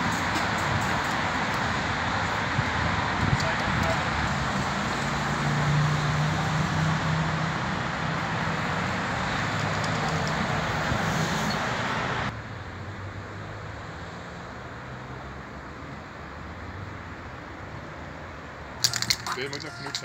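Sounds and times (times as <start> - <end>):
distant traffic: 0.0 - 20.0
road traffic rushing: 0.0 - 20.0.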